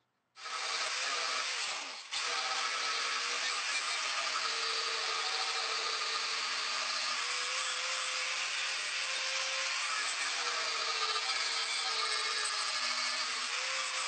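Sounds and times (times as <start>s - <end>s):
grinder grinding steel: 0.4s - 14.0s.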